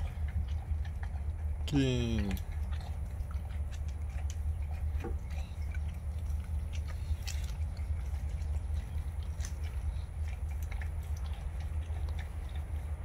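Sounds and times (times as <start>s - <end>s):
dog lapping from metal bowl: 0.0s - 13.0s.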